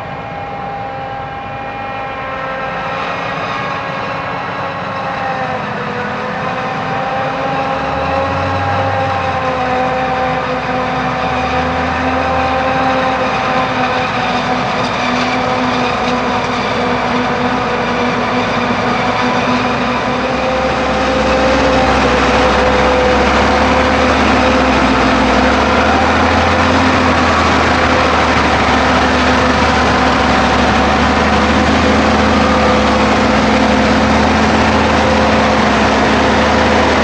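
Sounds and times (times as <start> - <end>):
harvester engine drone: 0.0 - 37.0
held whining tones: 0.0 - 37.0.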